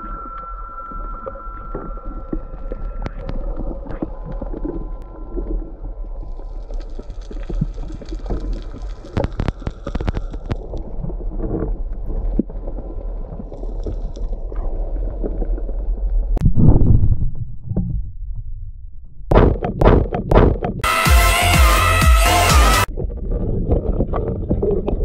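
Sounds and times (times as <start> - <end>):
underwater rumble and gurgling: 0.0 - 20.8, 22.9 - 25.0.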